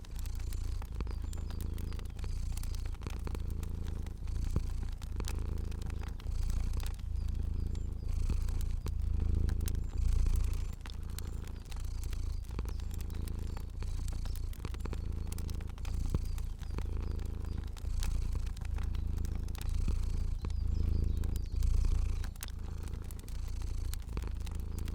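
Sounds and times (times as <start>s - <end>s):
cat purring: 0.0s - 24.9s
fire crackling: 0.0s - 24.9s.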